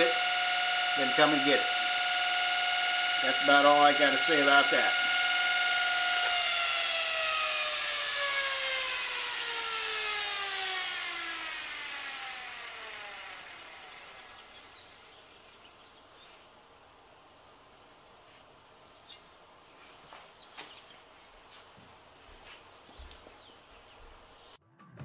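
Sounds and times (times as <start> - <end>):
electric motor whine: 0.0 - 24.6.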